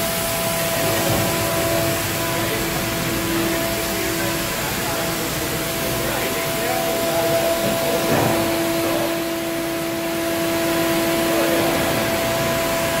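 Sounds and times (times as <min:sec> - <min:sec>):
shop machinery whirring: 0:00.0 - 0:13.0.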